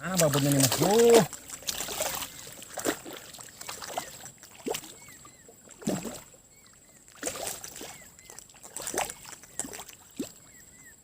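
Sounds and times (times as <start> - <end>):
splashes in shallow water: 0.0 - 10.6.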